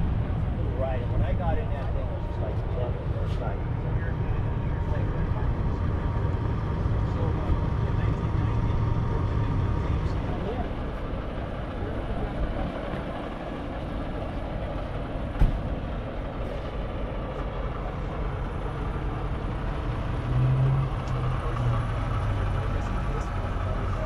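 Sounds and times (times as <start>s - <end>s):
rumbling outdoor background: 0.0s - 24.0s
vehicle engine running: 0.0s - 24.0s.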